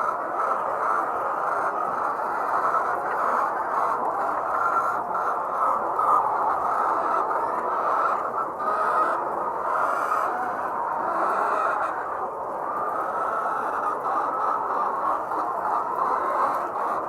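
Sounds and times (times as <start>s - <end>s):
flock of hens clucking: 0.0s - 17.0s.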